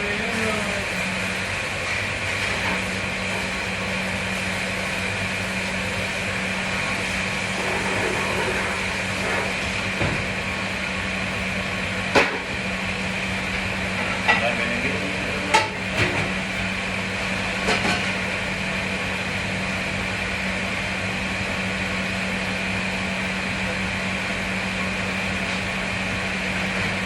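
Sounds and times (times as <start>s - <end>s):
kitchen machinery humming: 0.0s - 27.0s.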